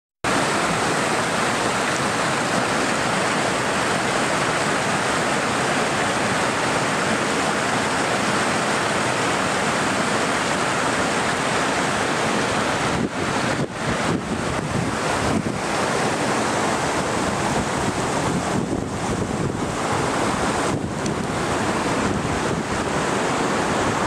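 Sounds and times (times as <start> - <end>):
waterfall rushing: 0.2 - 24.0.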